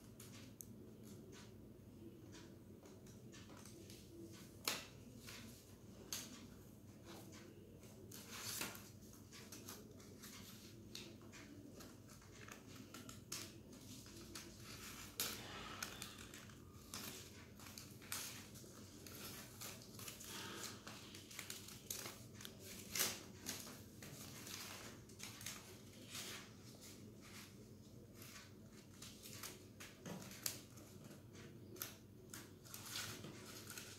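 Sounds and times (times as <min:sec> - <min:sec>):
paper rustling and crinkling: 0:03.4 - 0:33.9.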